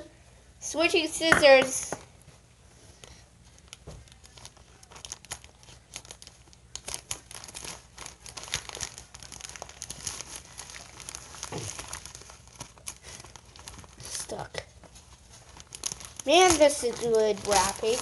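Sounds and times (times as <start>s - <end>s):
plastic bag crinkling: 3.4s - 18.0s.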